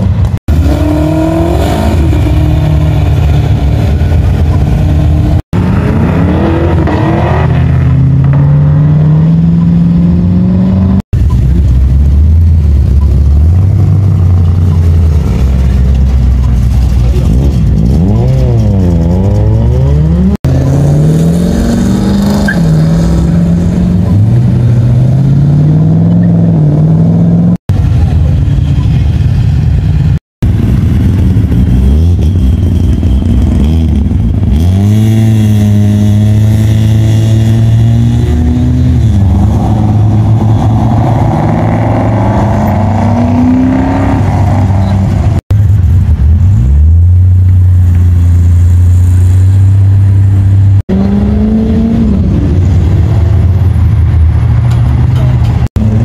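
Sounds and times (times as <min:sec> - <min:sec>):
car engines revving and accelerating: 0:00.0 - 0:56.0.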